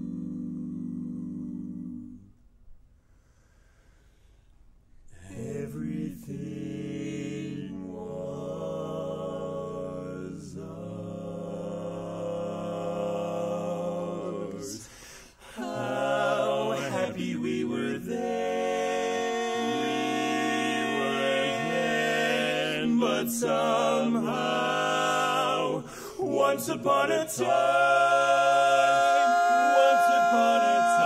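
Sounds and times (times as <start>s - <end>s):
male quartet singing a cappella: 5.2s - 31.0s.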